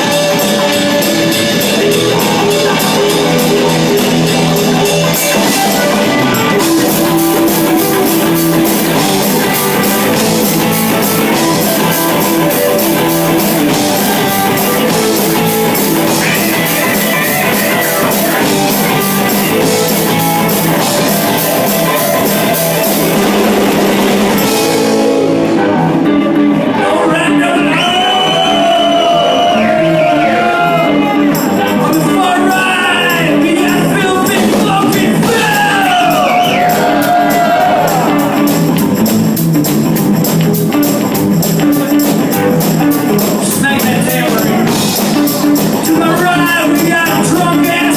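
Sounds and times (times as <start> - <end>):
drum kit: 0.0 - 47.9
electric guitar: 0.0 - 47.9.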